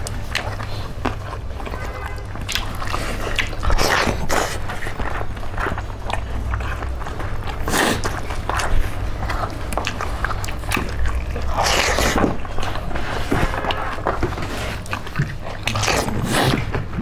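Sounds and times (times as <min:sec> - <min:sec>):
chewing and crunching: 0:00.0 - 0:17.0
steady low hum: 0:00.0 - 0:17.0.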